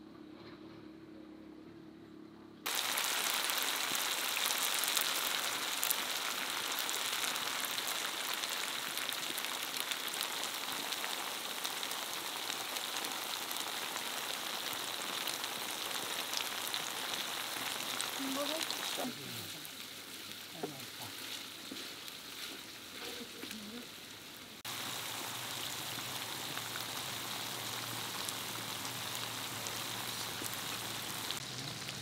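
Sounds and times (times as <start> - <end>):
food frying in hot oil: 2.7 - 32.0.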